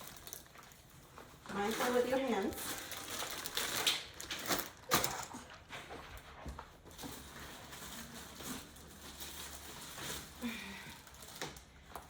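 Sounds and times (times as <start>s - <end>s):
packaging rustling and knocks: 0.0s - 10.4s.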